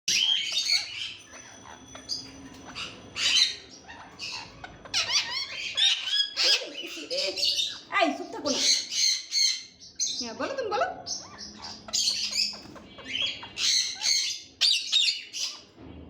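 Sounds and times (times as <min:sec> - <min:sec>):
parakeet squawking and chattering: 0:00.1 - 0:15.8.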